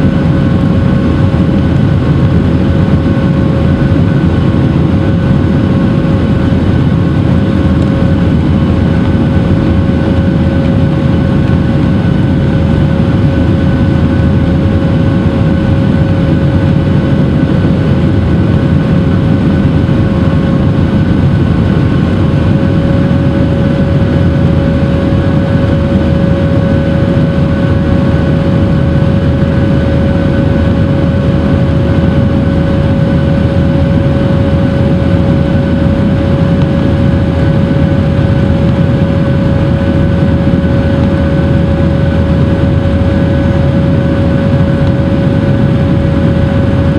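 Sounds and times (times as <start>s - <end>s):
jet engines running: 0.0s - 46.9s
mid-pitched whine: 0.0s - 46.9s.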